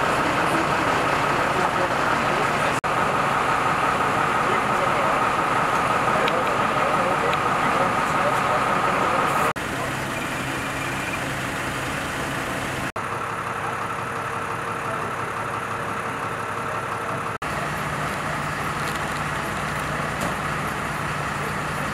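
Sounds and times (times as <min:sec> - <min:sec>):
fire engine idling: 0:00.0 - 0:21.9.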